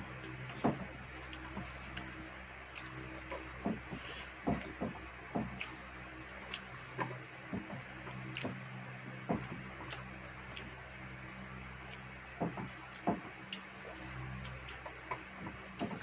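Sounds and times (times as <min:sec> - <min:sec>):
steady low hum: 0:00.0 - 0:16.0
chewing: 0:00.1 - 0:16.0.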